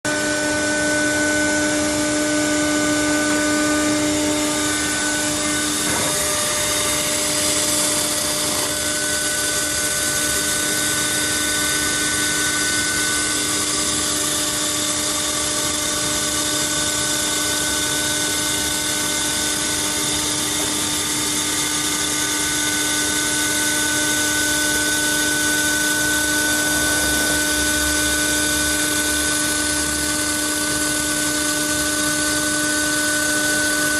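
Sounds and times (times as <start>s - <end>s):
laser cutter machine hum: 0.1s - 33.9s.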